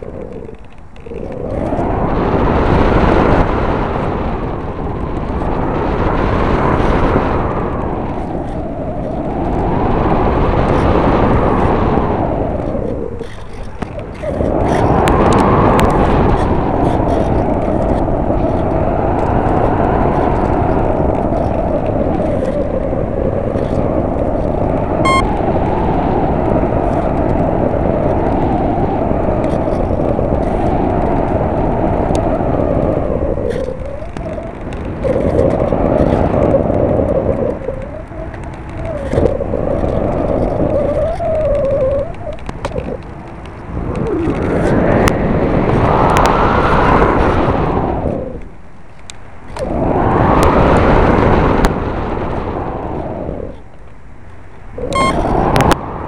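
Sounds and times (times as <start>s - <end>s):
electric motor and propeller whir: 0.0s - 56.0s
wind buffeting microphone: 0.0s - 56.0s.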